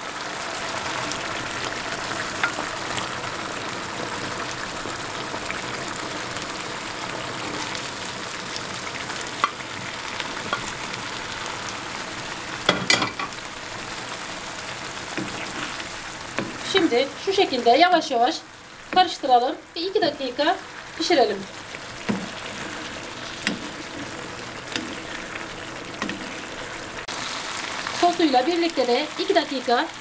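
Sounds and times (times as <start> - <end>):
sauce sizzling in a frying pan: 0.0 - 30.0.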